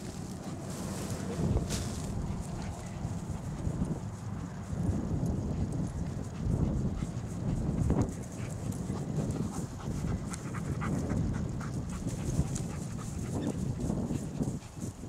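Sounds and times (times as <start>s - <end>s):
steady low rumble: 0.0s - 14.8s
rustling through dry grass: 0.0s - 15.0s
dog panting: 0.4s - 4.7s, 5.5s - 15.0s.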